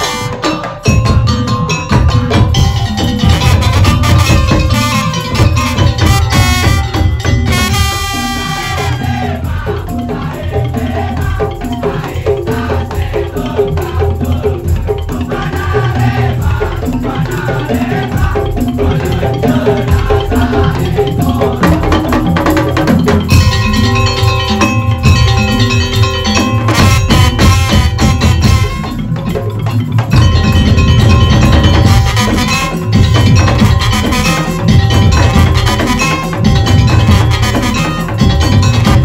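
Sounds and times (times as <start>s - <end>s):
wooden and bamboo percussion ensemble: 0.0s - 39.0s.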